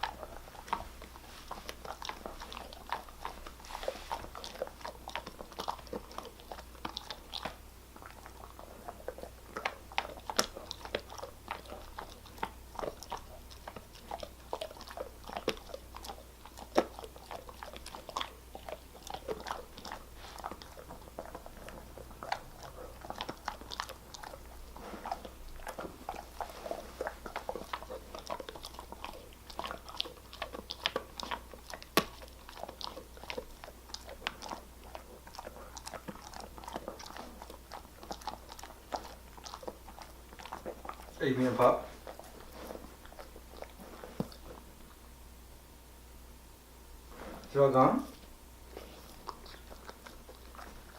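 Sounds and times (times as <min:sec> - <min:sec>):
dog crunching a hard treat: 0:00.0 - 0:45.0, 0:48.7 - 0:50.9.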